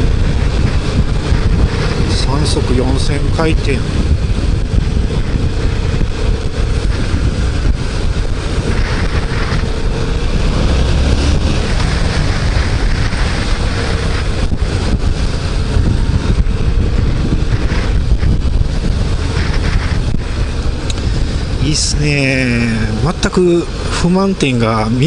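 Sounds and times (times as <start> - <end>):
motorcycle engine running: 0.0 - 24.2
wind noise on microphone: 0.0 - 25.0.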